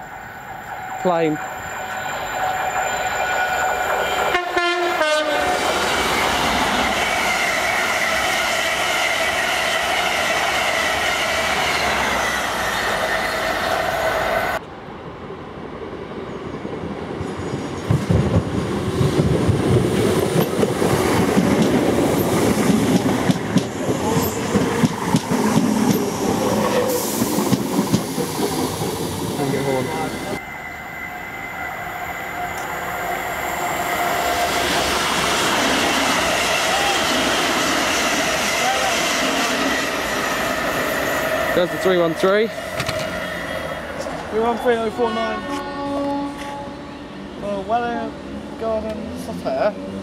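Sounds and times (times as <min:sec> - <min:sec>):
electric train rumbling past: 0:00.0 - 0:50.0
passing train with held tones: 0:00.0 - 0:50.0.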